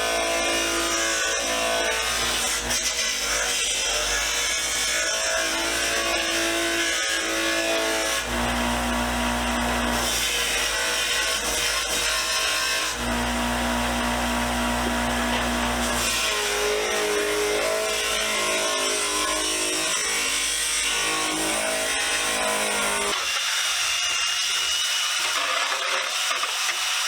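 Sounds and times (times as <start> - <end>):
power tool abrading sheet metal: 0.0 - 27.0.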